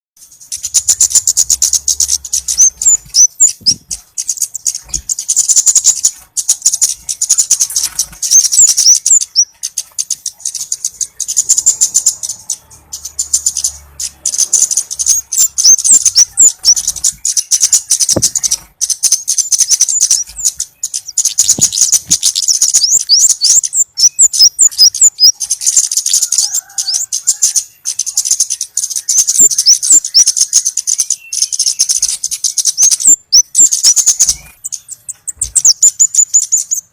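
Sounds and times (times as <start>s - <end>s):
bird ticking call: 0.3s - 36.9s.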